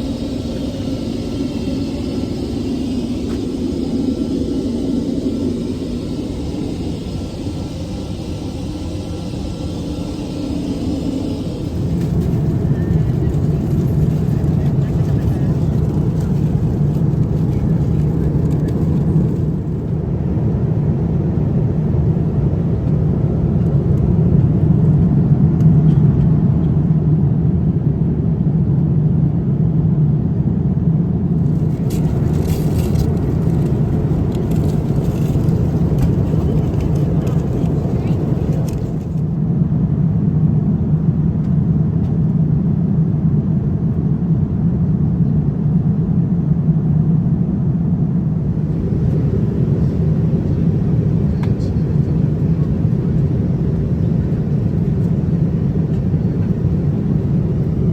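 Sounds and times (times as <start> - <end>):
airplane cabin engine rush: 0.0 - 57.9.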